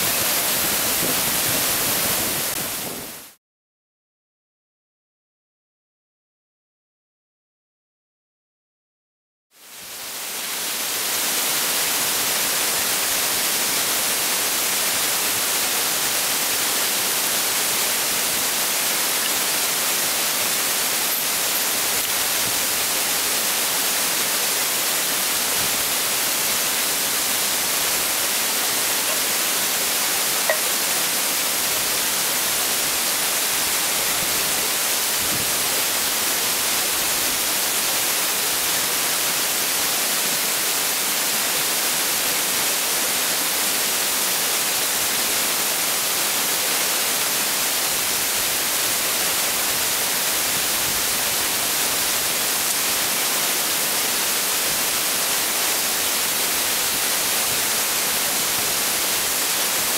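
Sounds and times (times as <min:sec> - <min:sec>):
waterfall rushing water: 0:00.0 - 0:03.4, 0:09.6 - 0:59.9.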